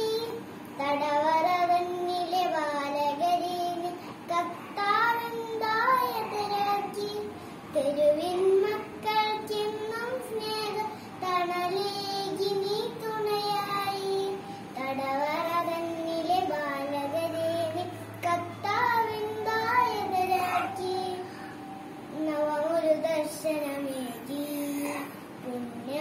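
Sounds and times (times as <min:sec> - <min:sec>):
girl singing: 0:00.0 - 0:26.0.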